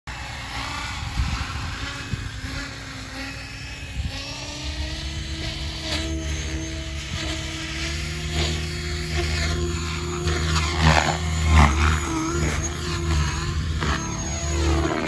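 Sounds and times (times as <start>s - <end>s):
model helicopter rotor whine: 0.1s - 15.0s.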